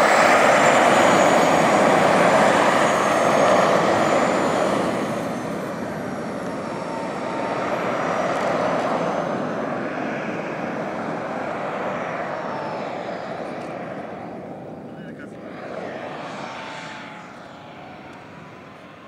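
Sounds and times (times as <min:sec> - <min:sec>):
model jet flying: 0:00.0 - 0:19.0.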